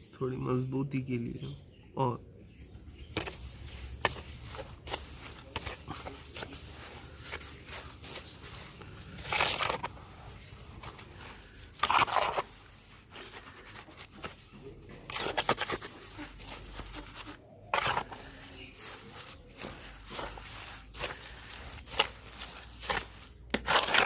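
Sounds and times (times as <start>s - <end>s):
scraping and crunching: 2.5s - 24.0s.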